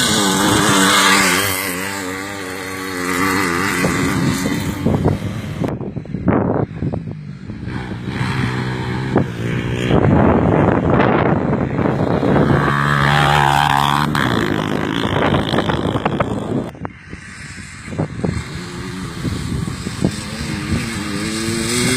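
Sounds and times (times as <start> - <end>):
motorcycle engines revving and passing: 0.0 - 21.9.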